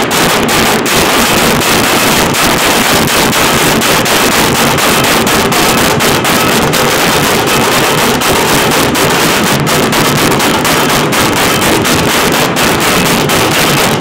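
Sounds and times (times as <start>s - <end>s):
barrel drums pounding: 0.0s - 14.0s.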